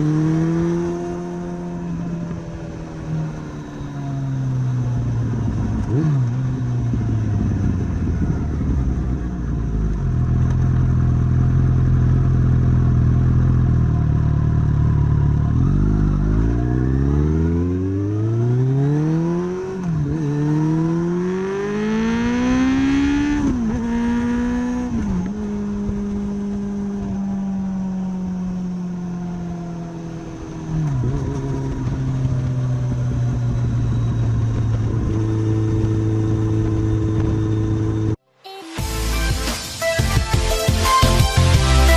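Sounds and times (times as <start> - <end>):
motorcycle engine accelerating and shifting: 0.0 - 38.2.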